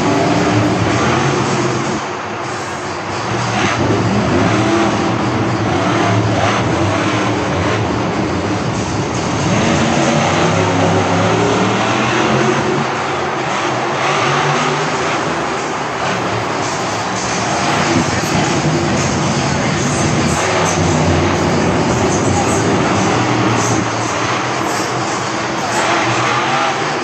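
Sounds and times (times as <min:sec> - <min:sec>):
loud arena noise: 0:00.0 - 0:27.0
truck engine revving: 0:00.0 - 0:27.0.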